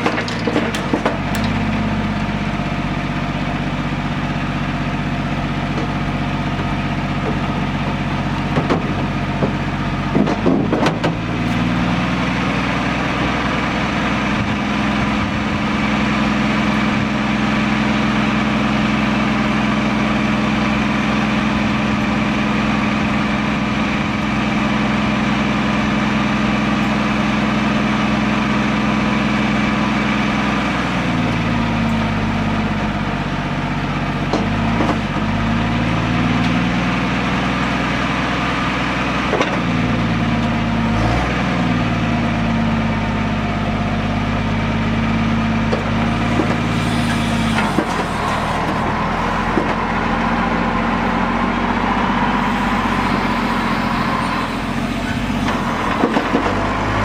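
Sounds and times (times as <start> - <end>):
diesel engine running and revving: 0.0 - 57.0.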